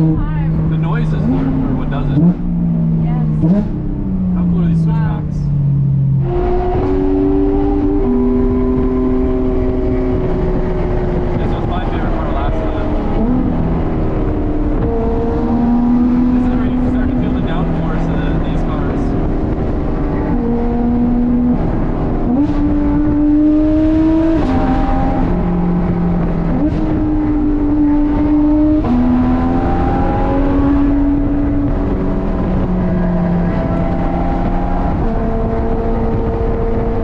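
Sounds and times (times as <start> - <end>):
sports car engine shifting gears: 0.0 - 37.0.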